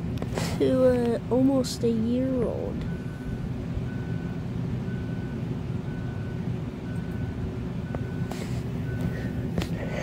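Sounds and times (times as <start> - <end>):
electric fan humming: 0.0 - 10.0.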